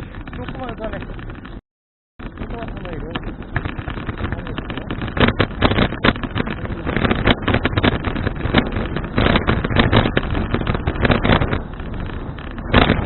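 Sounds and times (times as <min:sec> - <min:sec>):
wind buffeting microphone: 0:00.0 - 0:01.6, 0:02.2 - 0:13.0.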